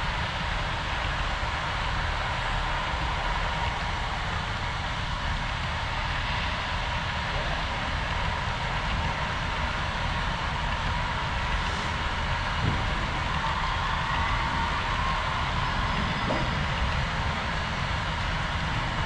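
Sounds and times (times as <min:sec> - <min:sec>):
model train wheels whirring: 0:00.0 - 0:19.0.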